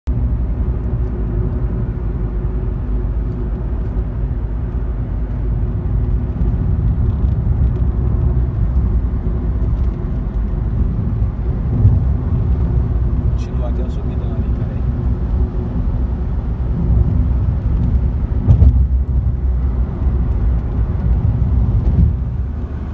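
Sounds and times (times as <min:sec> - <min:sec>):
car interior road rumble: 0:00.1 - 0:22.9.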